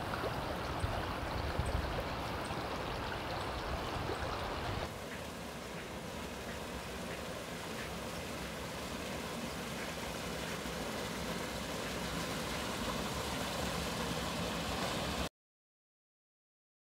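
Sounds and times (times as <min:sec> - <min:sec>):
water pouring into a pool: 0:00.0 - 0:15.3.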